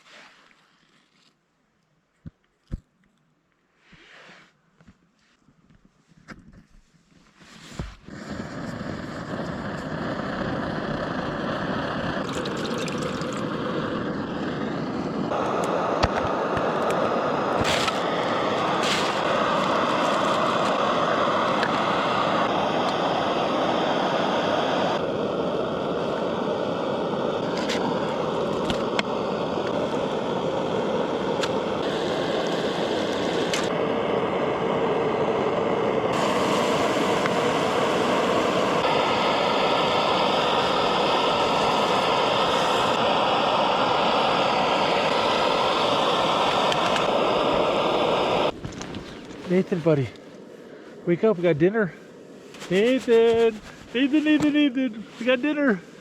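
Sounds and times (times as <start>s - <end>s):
camping stove rushing: 7.6s - 50.2s, 52.5s - 55.4s.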